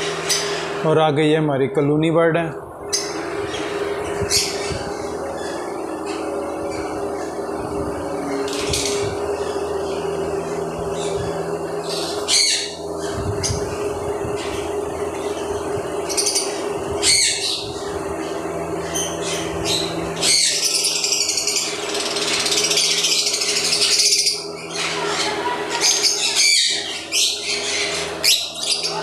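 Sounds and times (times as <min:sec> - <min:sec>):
lovebirds chattering and screeching: 0:00.0 - 0:00.9, 0:02.5 - 0:29.0
steady low hum: 0:00.0 - 0:29.0.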